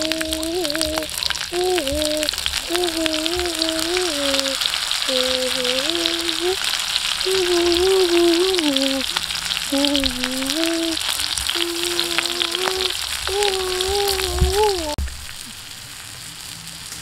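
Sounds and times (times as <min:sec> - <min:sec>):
meat sizzling and crackling: 0:00.0 - 0:17.0.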